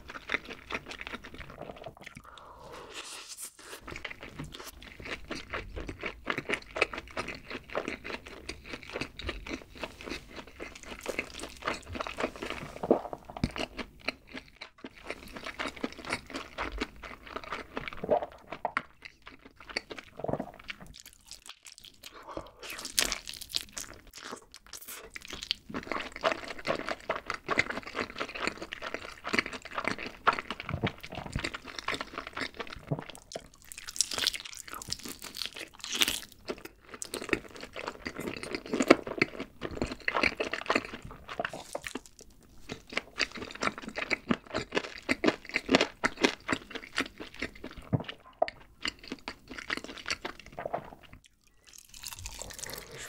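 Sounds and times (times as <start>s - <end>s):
wet chewing and crunching: 0.0s - 2.4s, 3.8s - 53.0s.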